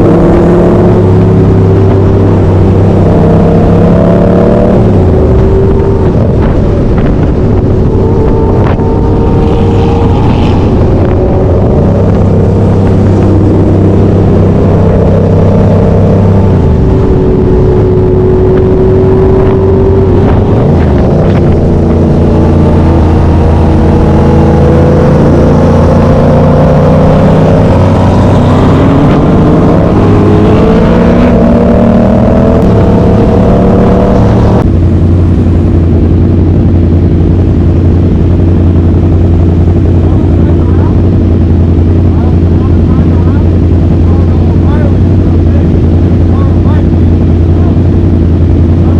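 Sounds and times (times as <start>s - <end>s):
steady low drone: 0.0s - 48.9s
vehicle engines revving: 0.0s - 48.9s.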